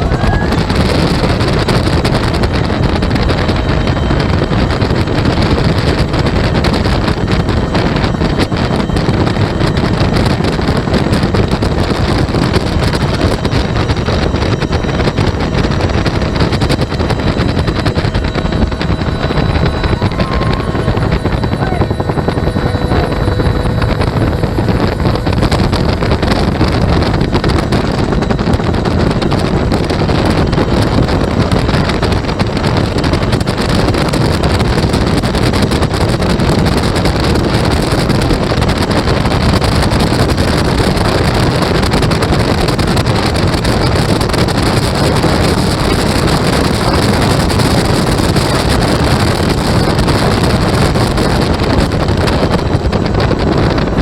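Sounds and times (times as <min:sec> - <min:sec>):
helicopter turbine and rotor: 0:00.0 - 0:54.0
wind buffeting microphone: 0:00.0 - 0:54.0.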